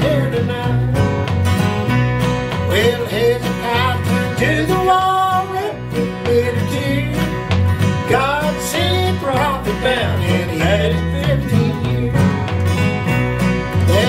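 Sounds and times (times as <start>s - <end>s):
sliding guitar lead line: 0.0s - 14.0s
strummed acoustic guitar rhythm: 0.0s - 14.0s.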